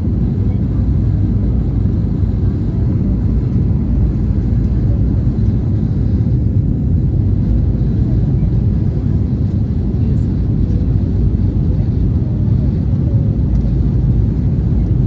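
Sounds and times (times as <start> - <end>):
jet engine rumble inside cabin: 0.0 - 15.0.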